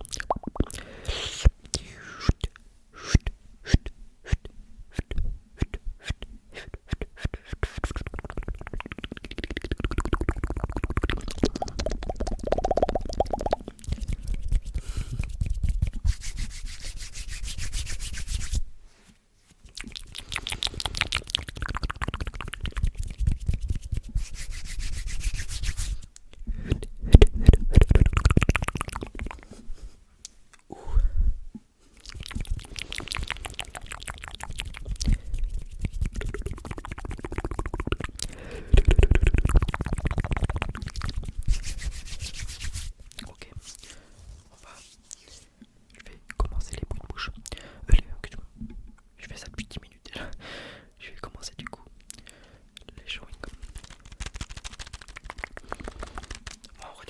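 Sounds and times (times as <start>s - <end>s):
mouth clicking sounds: 0.0s - 18.6s, 19.5s - 29.6s, 30.2s - 30.8s, 31.9s - 43.9s, 45.9s - 48.4s, 51.1s - 57.0s.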